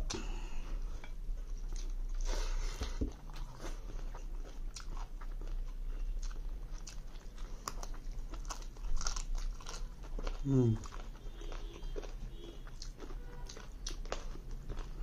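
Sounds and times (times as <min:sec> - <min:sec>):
chewing and biting: 0:01.0 - 0:15.0.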